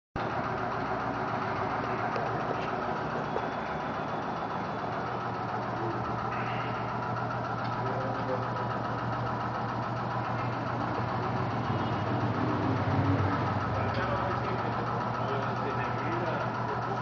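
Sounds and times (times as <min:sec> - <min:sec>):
machine humming: 0:00.2 - 0:17.0.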